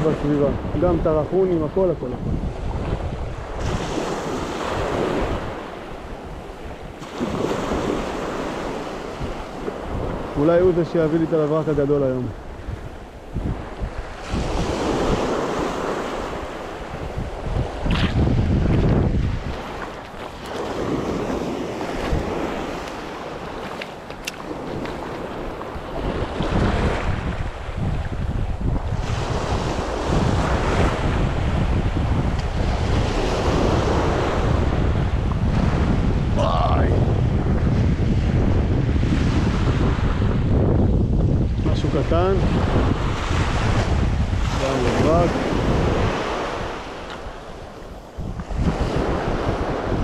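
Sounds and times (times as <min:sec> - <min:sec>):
sea surf washing onto beach: 0:00.0 - 0:50.0
wind buffeting microphone: 0:00.0 - 0:50.0.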